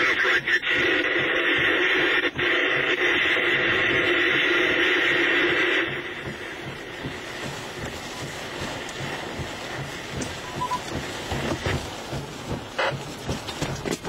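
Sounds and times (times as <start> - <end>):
radio scanner static hiss: 0.0 - 14.0.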